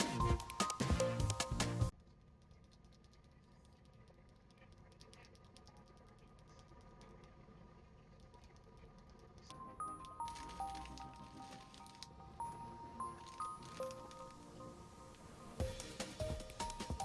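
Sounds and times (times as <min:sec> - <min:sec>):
rapid keyboard typing: 0:00.0 - 0:07.4, 0:08.1 - 0:12.1, 0:13.1 - 0:14.5, 0:15.8 - 0:17.0.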